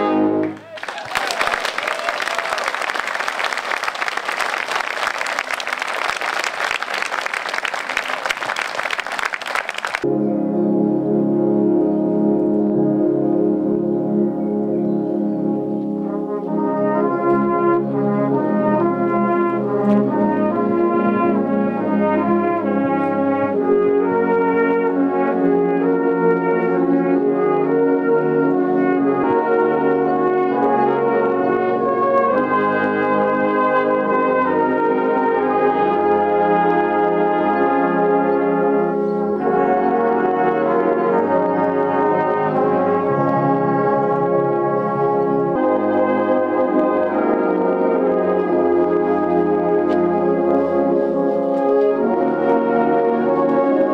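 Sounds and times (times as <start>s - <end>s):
brass band playing: 0.0s - 0.6s, 1.2s - 53.9s.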